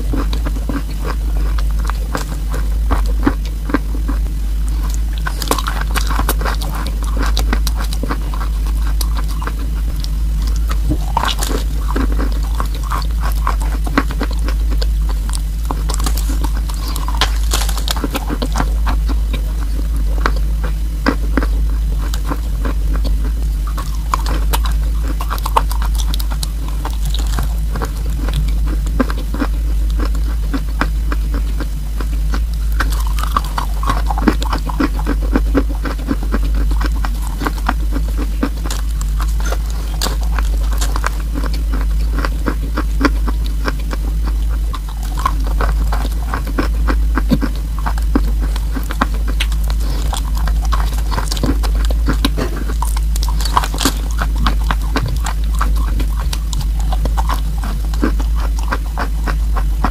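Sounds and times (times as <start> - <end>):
crunchy chewing: 0.0 - 59.9
steady low hum: 0.0 - 59.9.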